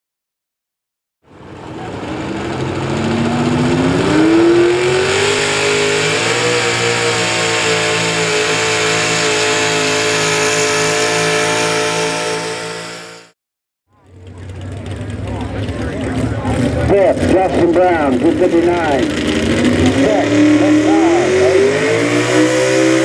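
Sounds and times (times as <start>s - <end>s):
truck engine revving at full throttle: 1.3s - 13.4s, 14.0s - 23.0s.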